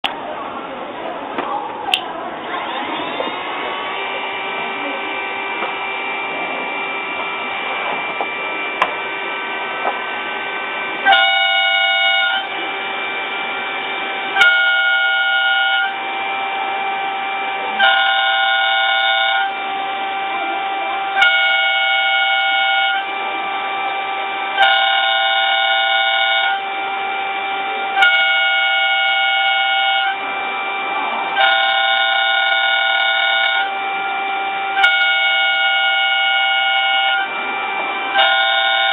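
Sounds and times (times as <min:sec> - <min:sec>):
cnc router spindle whine: 0:02.3 - 0:38.9
cutter whine during passes: 0:02.4 - 0:38.9.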